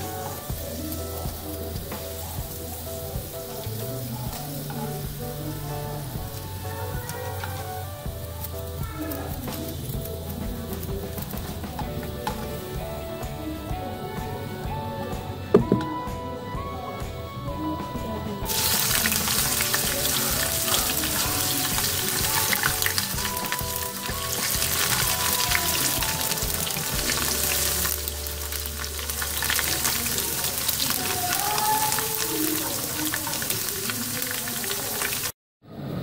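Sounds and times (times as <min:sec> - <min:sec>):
potato slices sizzling in oil: 0:00.0 - 0:14.8, 0:18.5 - 0:35.4.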